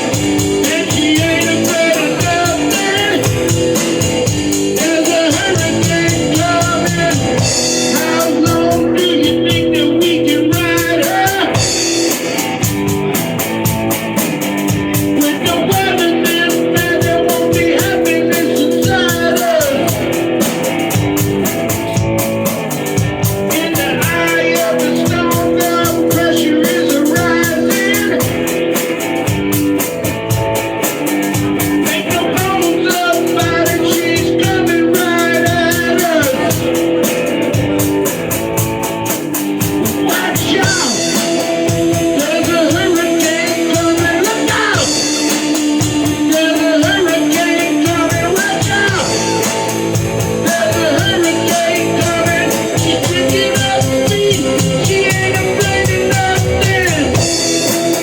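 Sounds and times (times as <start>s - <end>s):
person singing: 0.0s - 12.7s, 14.7s - 22.2s, 23.0s - 29.4s, 31.4s - 38.4s, 39.6s - 58.0s
drum beat: 0.0s - 58.0s
guitar: 0.0s - 58.0s
rock song: 0.0s - 58.0s.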